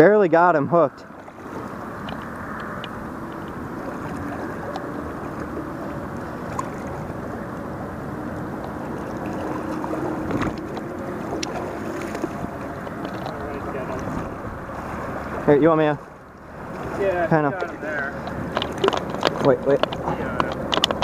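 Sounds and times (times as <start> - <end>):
shallow river current rushing: 0.0 - 21.0
water splash: 1.0 - 21.0.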